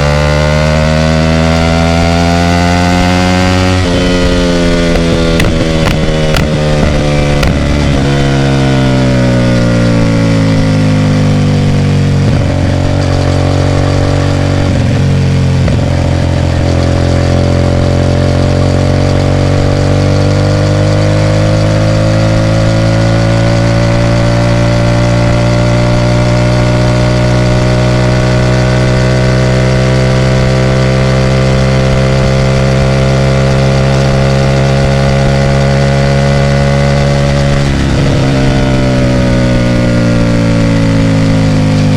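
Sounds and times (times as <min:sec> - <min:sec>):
motorcycle engine through loud exhaust: 0:00.0 - 0:41.9.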